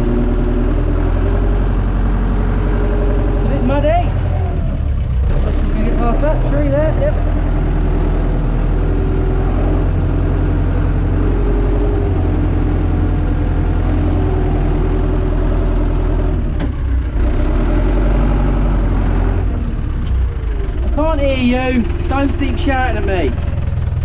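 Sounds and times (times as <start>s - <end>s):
tractor diesel engine droning: 0.0s - 24.0s.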